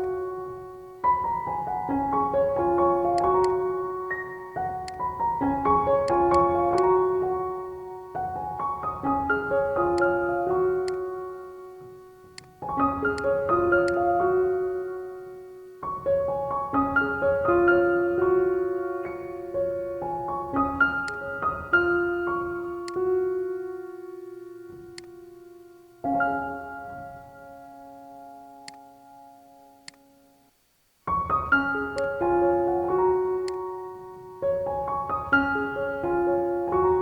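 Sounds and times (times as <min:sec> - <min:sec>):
piano music: 0:00.0 - 0:30.1, 0:31.1 - 0:37.0.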